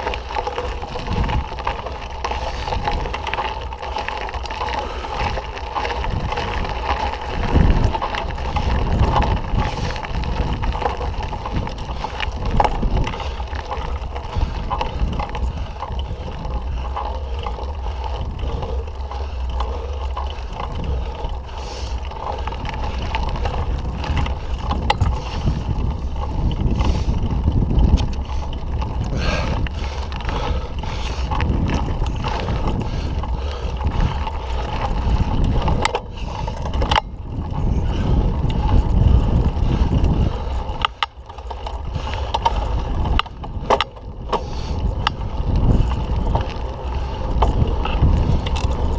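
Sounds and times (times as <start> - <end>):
bike rattling and clicking: 0.0 - 48.9
wind rumble on microphone: 0.0 - 48.9.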